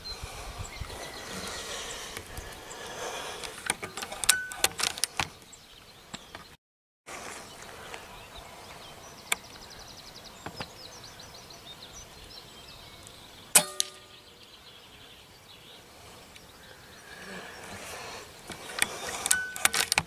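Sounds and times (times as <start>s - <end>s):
birds chirping and trilling: 0.0s - 6.6s, 7.2s - 20.0s.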